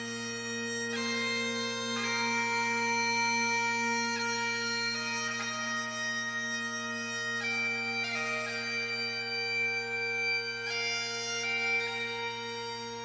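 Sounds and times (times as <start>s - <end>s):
bagpipes playing slow tune: 0.0s - 13.0s.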